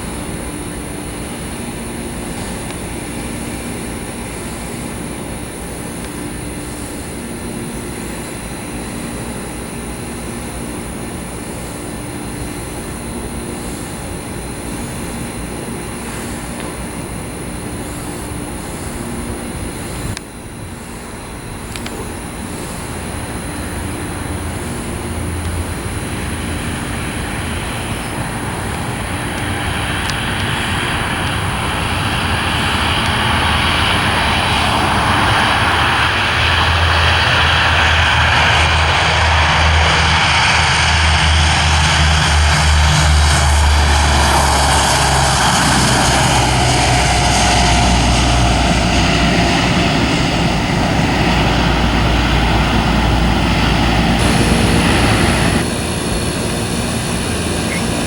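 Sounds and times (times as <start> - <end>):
military aircraft engines droning: 0.0 - 58.0.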